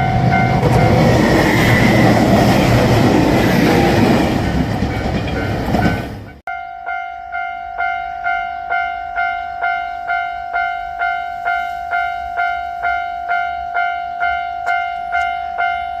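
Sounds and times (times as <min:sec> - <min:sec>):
railroad crossing alarm dinging: 0:00.0 - 0:16.0.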